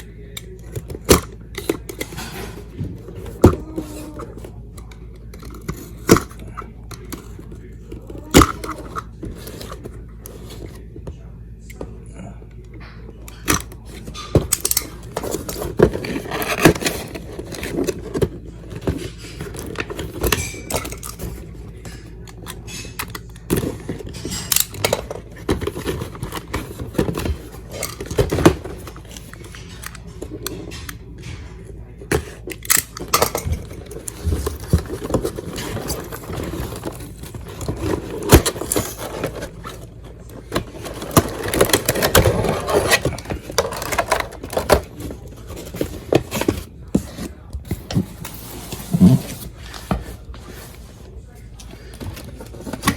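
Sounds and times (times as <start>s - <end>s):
cardboard and plastic packaging opening: 0.0s - 11.8s, 13.2s - 52.9s.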